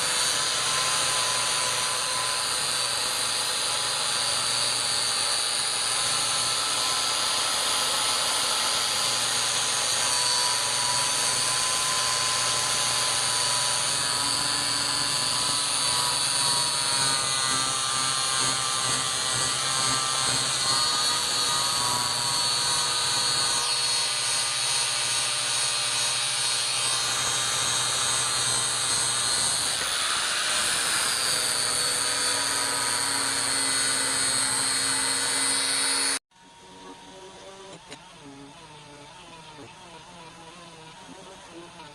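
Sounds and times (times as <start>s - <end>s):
power tool whining: 0.0s - 41.9s.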